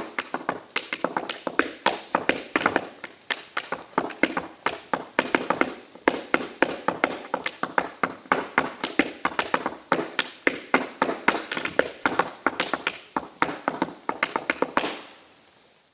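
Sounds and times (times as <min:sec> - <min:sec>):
tap shoes on hard surface: 0:00.0 - 0:15.1.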